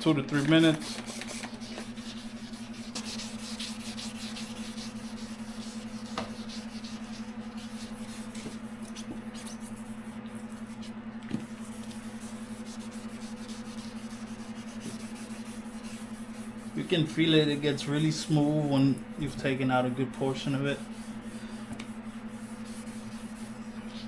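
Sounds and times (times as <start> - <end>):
steady low hum: 0.0 - 24.0
sandpaper scratching plastic: 0.3 - 24.0.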